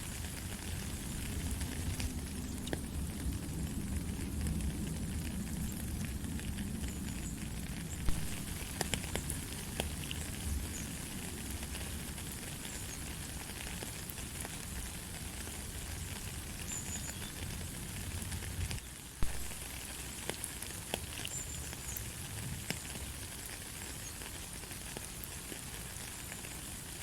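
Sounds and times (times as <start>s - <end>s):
light rain falling: 0.0s - 27.0s.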